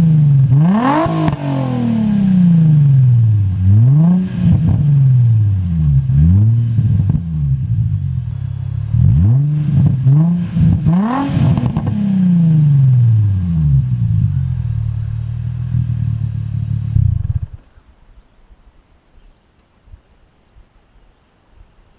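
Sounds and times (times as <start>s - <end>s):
car engine revving and idling: 0.0s - 17.6s.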